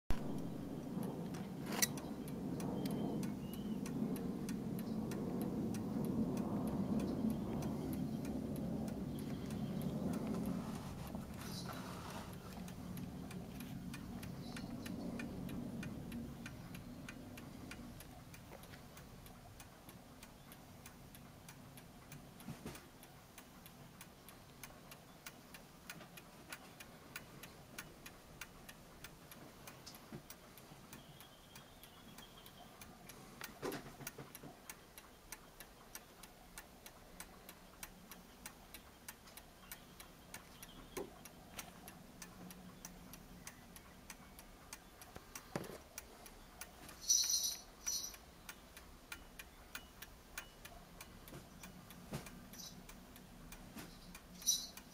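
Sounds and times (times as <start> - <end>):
clock ticking faintly: 0.1 - 54.9.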